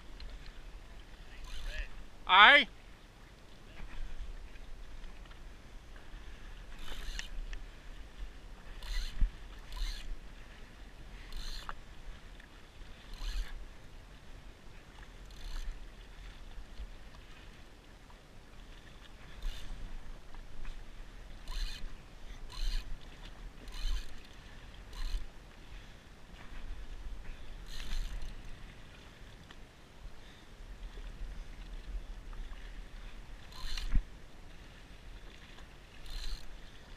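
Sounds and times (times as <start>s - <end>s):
waves slapping against a hull: 0.0s - 36.9s
wind rumble on microphone: 0.0s - 36.9s.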